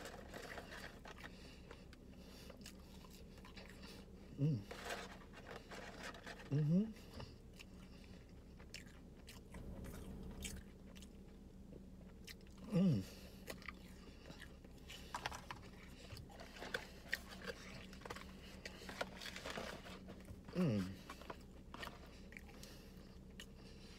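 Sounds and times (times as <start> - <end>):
faint steady hum: 0.0 - 23.9
person chewing crunchy food: 0.0 - 23.9.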